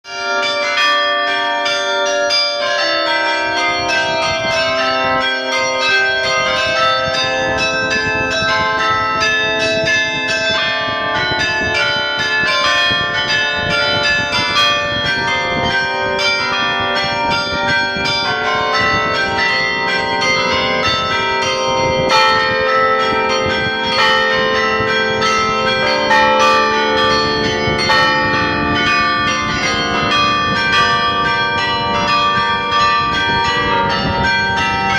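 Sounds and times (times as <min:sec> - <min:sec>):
carillon bells chiming: 0:00.1 - 0:34.9.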